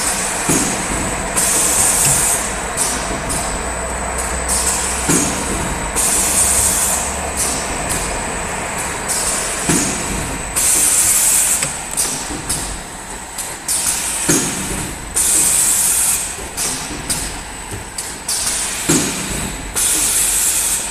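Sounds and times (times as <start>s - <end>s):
machine droning: 0.0s - 20.9s.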